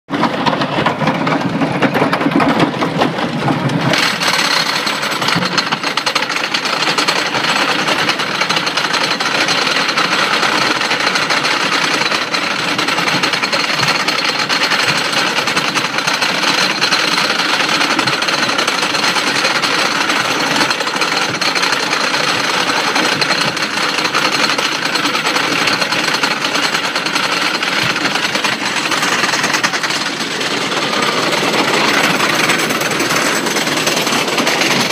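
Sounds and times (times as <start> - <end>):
roller coaster lift chain clatter: 0.1 - 34.9.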